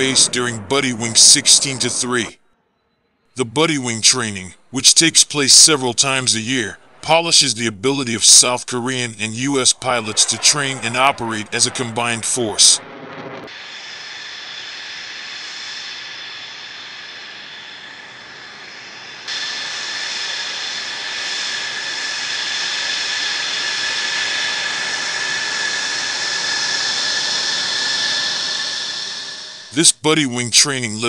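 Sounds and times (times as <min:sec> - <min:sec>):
jet engine roar with high whine: 0:00.0 - 0:02.3, 0:05.0 - 0:29.8.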